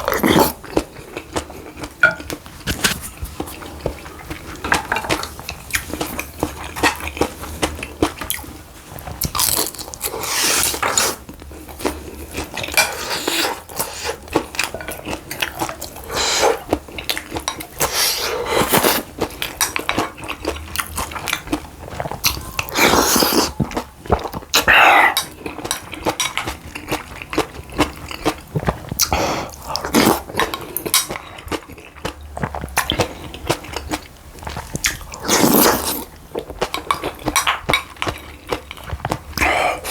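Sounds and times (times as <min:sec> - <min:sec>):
chewing and crunchy biting: 0:00.0 - 0:39.9.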